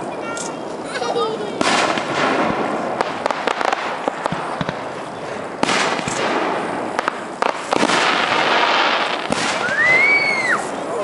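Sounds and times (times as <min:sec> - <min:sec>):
firework crackling: 0:00.0 - 0:11.0
firework shells bursting: 0:01.6 - 0:10.6.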